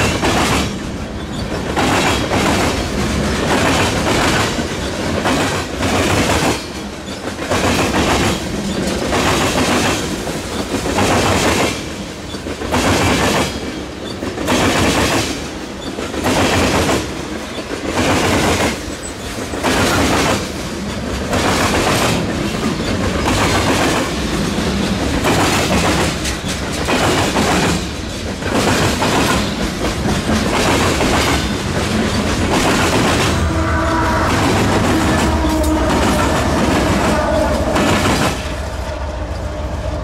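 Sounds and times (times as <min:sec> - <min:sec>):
train wheels clacking over track joints: 0:00.0 - 0:39.0
train rumble: 0:00.0 - 0:40.0.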